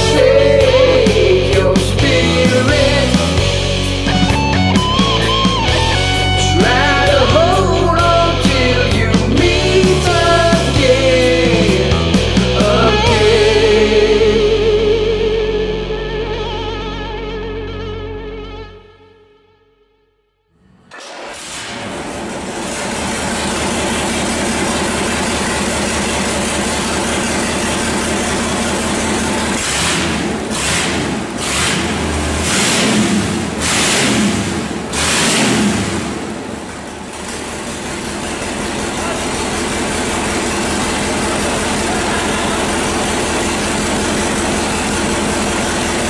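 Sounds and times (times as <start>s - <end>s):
diesel engine running and revving: 0.0s - 17.5s, 20.6s - 46.0s.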